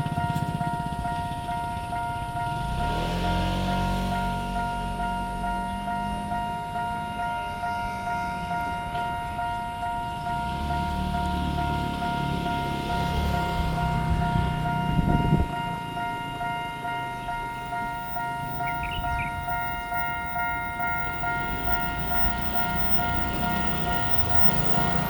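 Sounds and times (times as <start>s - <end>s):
level-crossing warning alarm: 0.0s - 25.0s.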